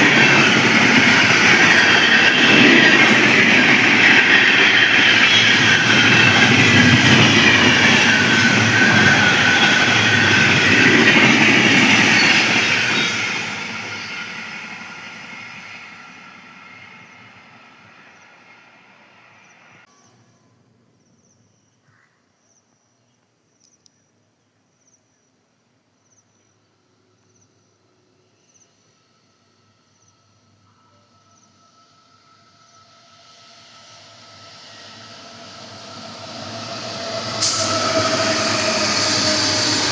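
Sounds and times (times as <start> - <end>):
train rumbling on rails: 0.0 - 20.0, 27.3 - 39.9.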